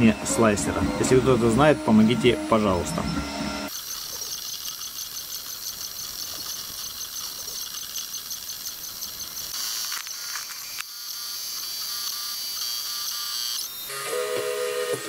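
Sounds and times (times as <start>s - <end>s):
printer fans and motors whirring: 0.0s - 15.0s.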